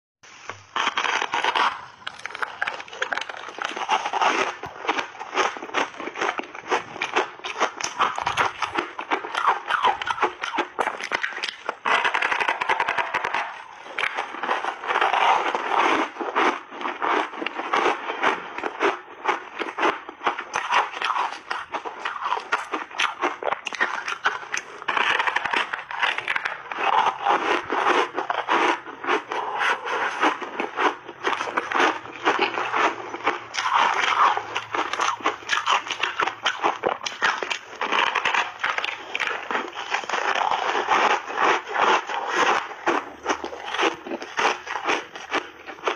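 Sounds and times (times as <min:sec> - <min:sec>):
crunching ice while chewing: 0:00.3 - 0:45.9.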